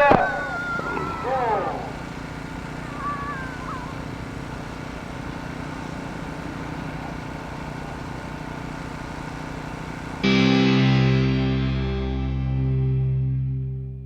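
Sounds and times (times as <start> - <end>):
low engine rumble: 0.0 - 14.0
outdoor noise: 0.0 - 14.0.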